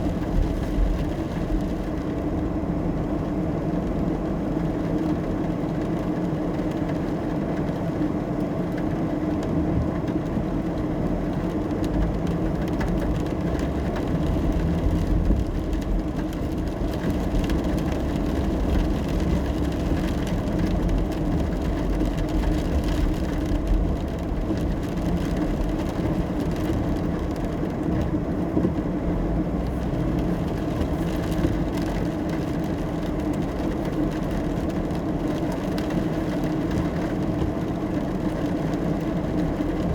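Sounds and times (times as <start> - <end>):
engine and tyres on wet road: 0.0 - 39.9
faint rain taps: 0.0 - 39.9.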